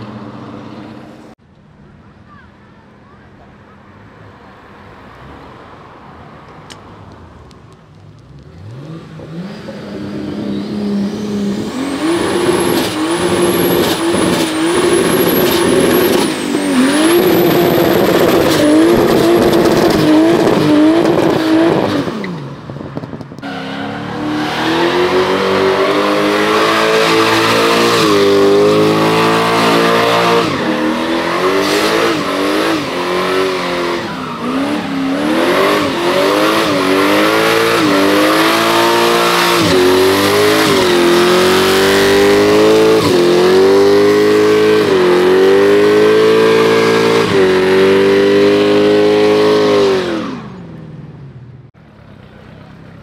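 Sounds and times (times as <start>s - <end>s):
car engine revving: 7.9s - 50.6s.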